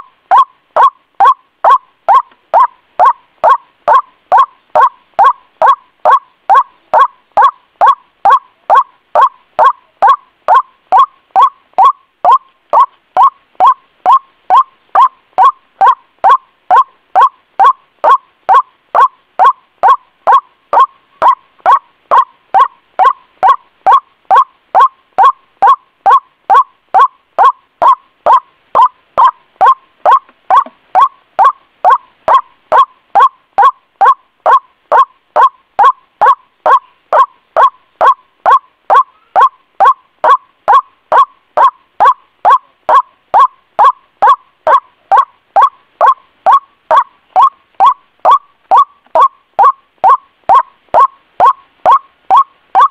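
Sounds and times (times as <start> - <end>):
waterhen calling: 0.0 - 52.9.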